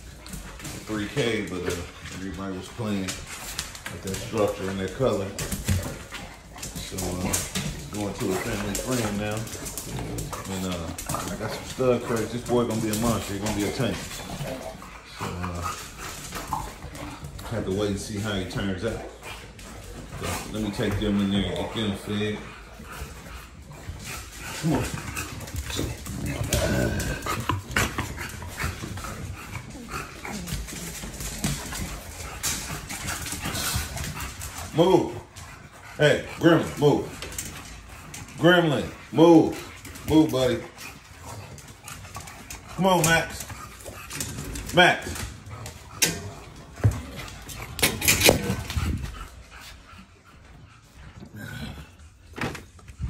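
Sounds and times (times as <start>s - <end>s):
puppies panting: 0.0s - 53.0s.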